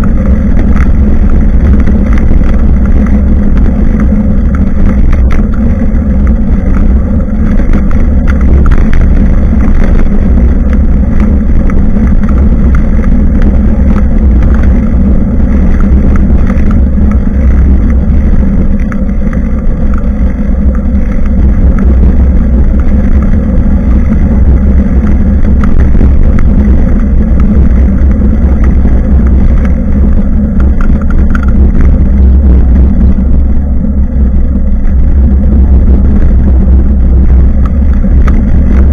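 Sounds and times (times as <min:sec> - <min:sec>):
road rumble: 0:00.0 - 0:38.9
wind buffeting microphone: 0:00.0 - 0:38.9.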